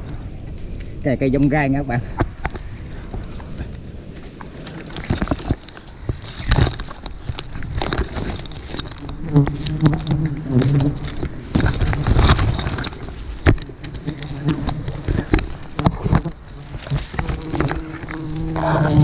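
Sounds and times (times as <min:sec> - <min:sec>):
bees buzzing: 0:02.4 - 0:19.0.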